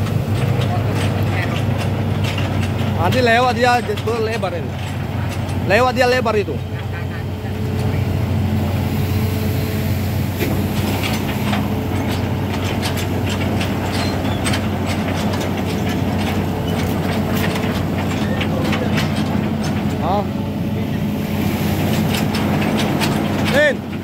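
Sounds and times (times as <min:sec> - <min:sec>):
metallic track chain clanks: 0:00.0 - 0:06.6, 0:10.4 - 0:21.0, 0:21.8 - 0:24.0
diesel engine humming: 0:00.0 - 0:24.0.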